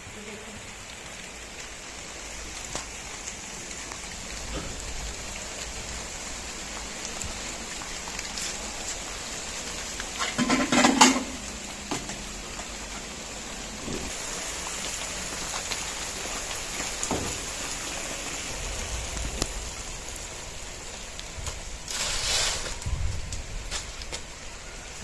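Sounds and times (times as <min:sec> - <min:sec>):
raindrops ticking: 0:00.0 - 0:25.0
steady rain: 0:00.0 - 0:25.0.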